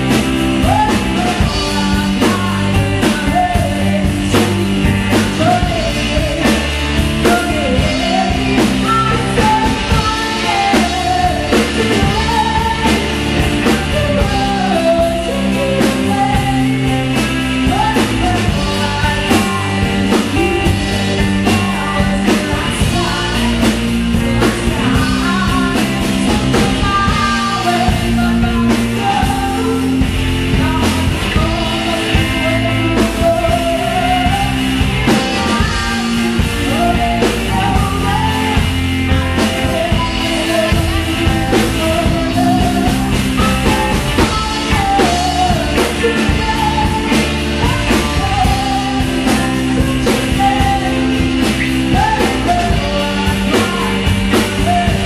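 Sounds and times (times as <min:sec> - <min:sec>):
drum beat: 0:00.0 - 0:55.0
live pop-rock band playing: 0:00.0 - 0:55.0
woman singing: 0:00.0 - 0:55.0.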